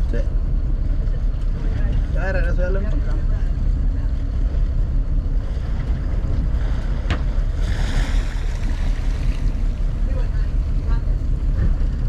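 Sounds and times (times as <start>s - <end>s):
boat motor rumble: 0.0s - 12.0s
water rushing past hull: 0.0s - 12.0s
wind buffeting microphone: 0.0s - 12.0s.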